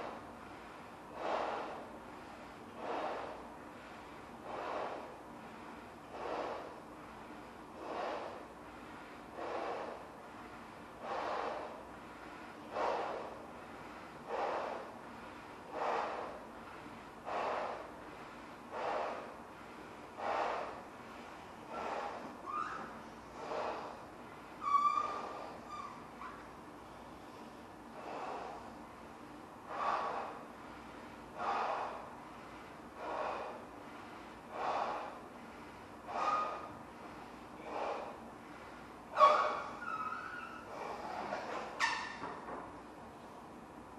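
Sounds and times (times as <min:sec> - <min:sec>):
noisy gasping breaths: 0:00.0 - 0:41.8.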